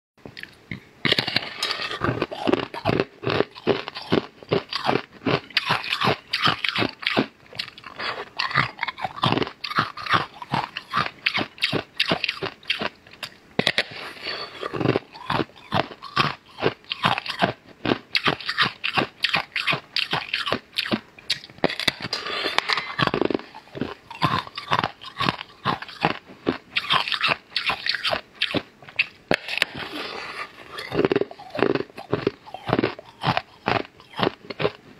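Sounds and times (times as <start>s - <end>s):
person crunching crisp wafer: 0.4s - 34.8s.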